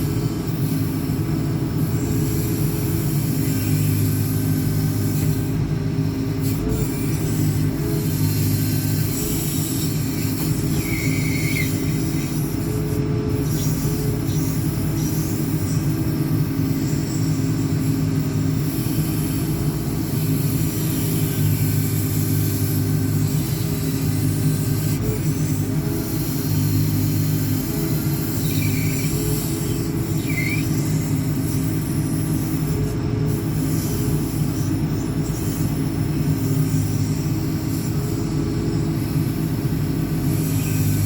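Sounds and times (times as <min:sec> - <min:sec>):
diesel engine running under load: 0:00.0 - 0:41.0
high-pitched whine: 0:00.0 - 0:41.0.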